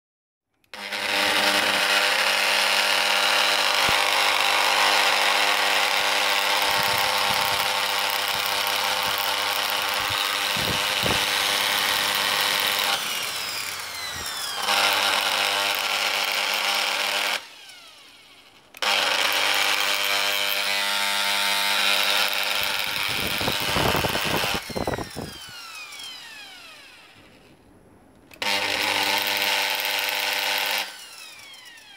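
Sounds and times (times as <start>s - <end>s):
mixer motor whirring: 0.6s - 27.6s, 28.3s - 31.9s.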